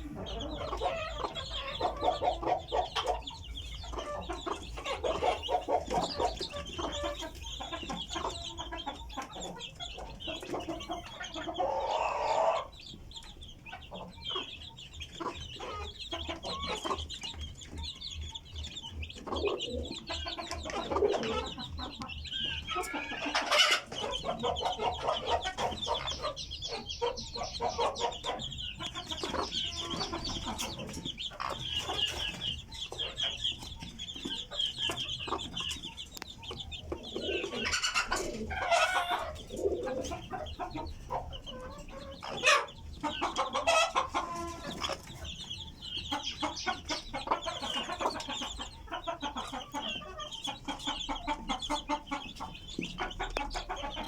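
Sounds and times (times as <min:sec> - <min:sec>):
chickens clucking: 0:00.0 - 0:54.0
chicks peeping: 0:00.0 - 0:54.0.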